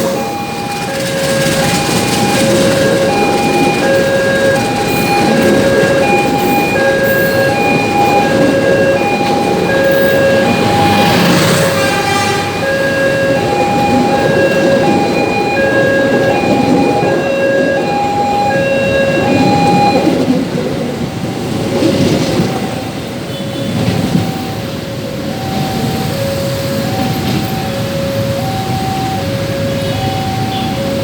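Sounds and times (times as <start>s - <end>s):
level-crossing alarm beeping: 0.0s - 31.0s
passing train rumble: 0.0s - 31.0s.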